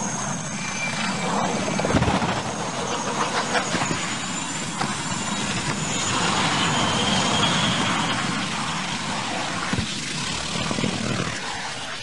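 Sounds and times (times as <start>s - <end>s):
faint high whine: 0.0s - 12.0s
aircraft crashing and breaking up: 0.2s - 12.0s.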